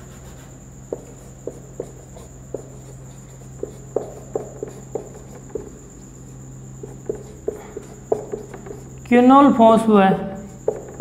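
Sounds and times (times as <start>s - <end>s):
marker squeaking on a whiteboard: 0.0s - 9.2s, 10.4s - 11.0s.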